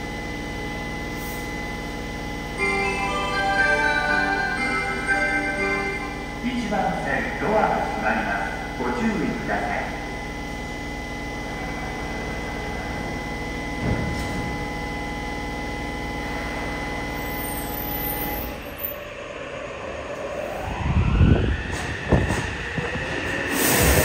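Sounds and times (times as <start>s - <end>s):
inverter whine rising: 0.0s - 24.0s
rumble of motors and wheels: 0.0s - 24.0s
train electrical hum: 0.0s - 24.0s.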